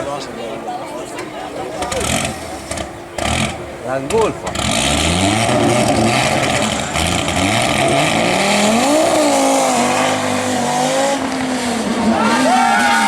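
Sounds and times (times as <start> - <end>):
rally car engine running hard: 1.9 - 12.6.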